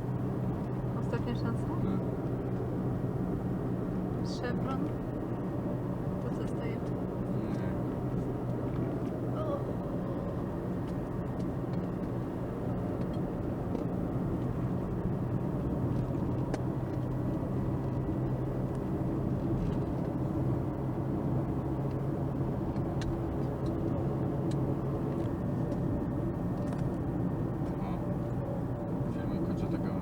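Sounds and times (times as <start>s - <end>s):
car engine hum: 0.0s - 30.0s
road noise inside car: 0.0s - 30.0s.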